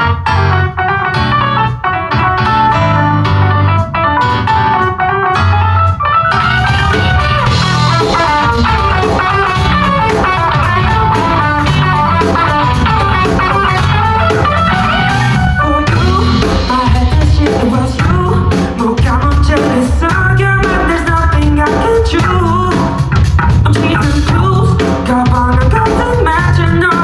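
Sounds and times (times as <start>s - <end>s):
bass: 0.0s - 27.0s
drums: 0.0s - 27.0s
guitar: 0.0s - 27.0s.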